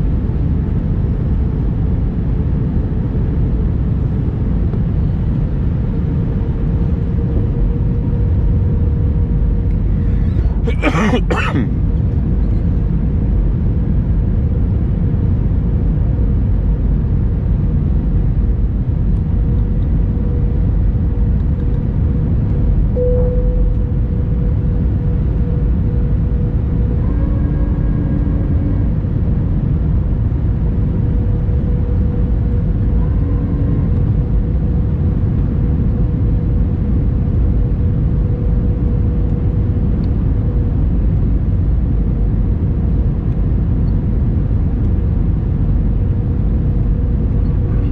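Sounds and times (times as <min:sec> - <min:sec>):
engine and airflow rumble: 0:00.0 - 0:47.9
faint steady hum: 0:02.6 - 0:13.7, 0:17.9 - 0:47.9.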